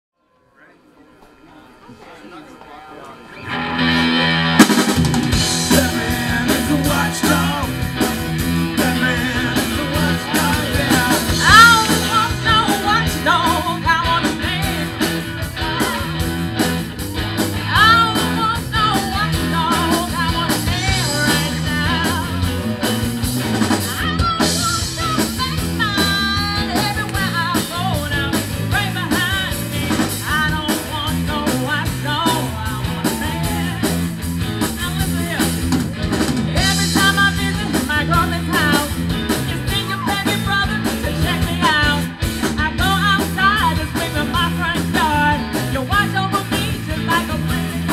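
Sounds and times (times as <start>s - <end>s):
rhythm and blues band playing: 1.2s - 47.9s
woman singing lead vocals: 5.5s - 16.4s, 17.6s - 22.9s, 23.6s - 35.6s, 36.5s - 47.9s.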